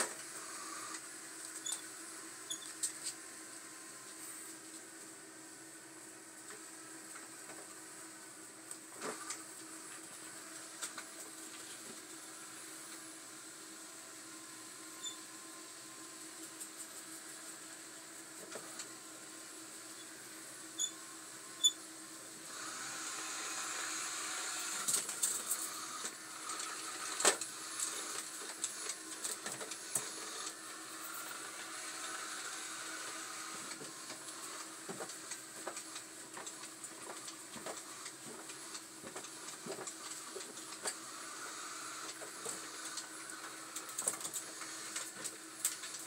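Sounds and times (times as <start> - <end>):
robot vacuum humming: 0.0 - 46.0.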